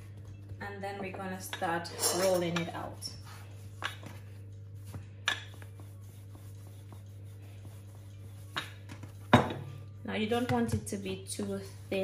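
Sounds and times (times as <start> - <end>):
rolling pin rolling dough: 0.0 - 12.0
steady low hum: 0.0 - 12.0.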